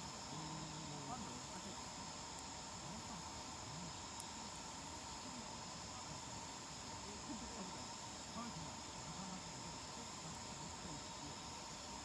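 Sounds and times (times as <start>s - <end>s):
campfire crackling: 0.0s - 12.0s
crickets chirping: 0.0s - 12.0s.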